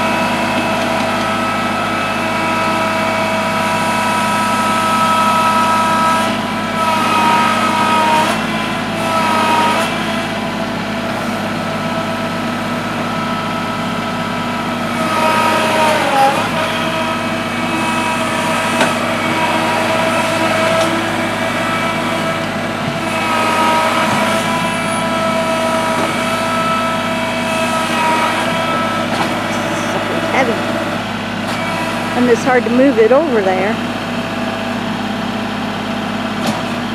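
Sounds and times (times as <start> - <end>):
diesel tractor engine straining: 0.0 - 36.9.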